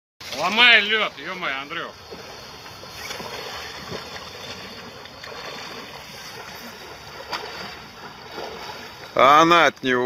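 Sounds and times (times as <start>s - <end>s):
man splashing through water: 0.2s - 9.6s.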